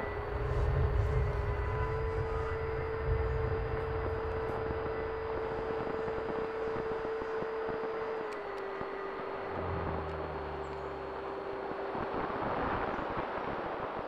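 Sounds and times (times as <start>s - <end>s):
wind rumbling on microphone: 0.0s - 7.9s, 9.5s - 14.0s
electric ducted fan whining: 0.0s - 14.0s.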